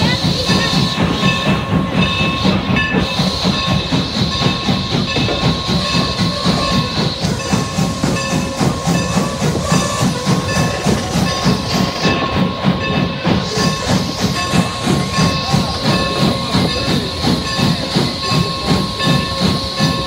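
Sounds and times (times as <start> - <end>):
steam hissing: 0.0 - 20.0
steam locomotive chuffing: 0.0 - 20.0.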